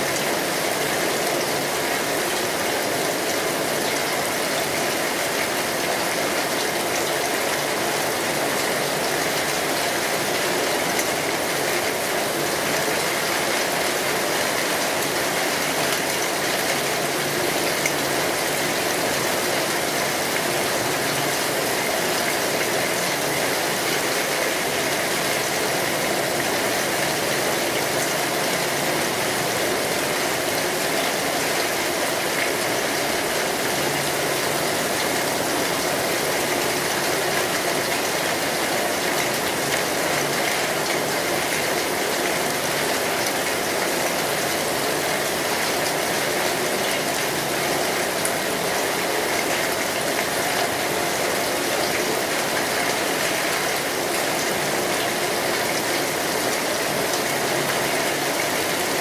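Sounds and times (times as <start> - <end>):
rain falling on a street: 0.0 - 59.0.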